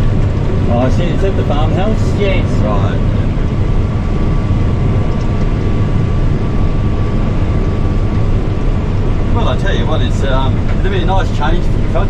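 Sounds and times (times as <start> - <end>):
combine harvester rumbling: 0.0 - 12.0
high whine: 0.0 - 12.0.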